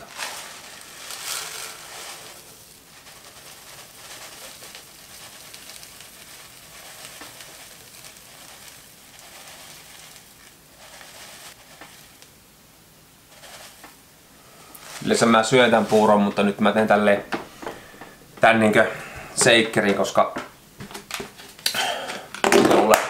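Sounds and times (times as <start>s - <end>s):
oat flakes pouring into bottle: 0.0s - 20.3s.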